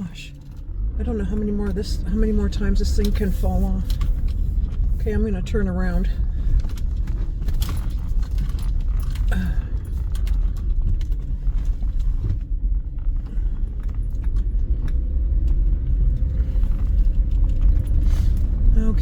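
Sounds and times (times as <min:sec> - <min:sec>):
car cabin road rumble: 0:00.0 - 0:19.0.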